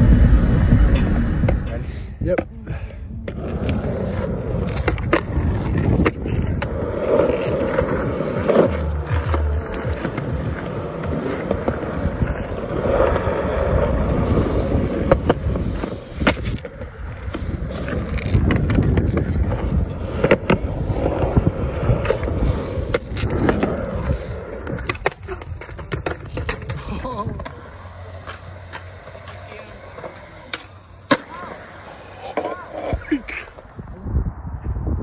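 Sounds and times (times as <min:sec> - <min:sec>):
skateboard wheels rolling on concrete: 0:00.0 - 0:35.0
skateboard clacking on the ground: 0:03.2 - 0:33.9.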